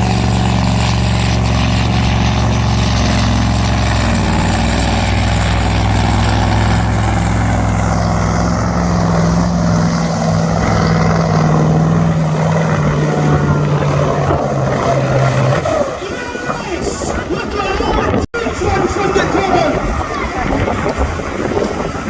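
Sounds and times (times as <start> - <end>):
engine running at high revs: 0.0 - 16.6, 18.8 - 22.0.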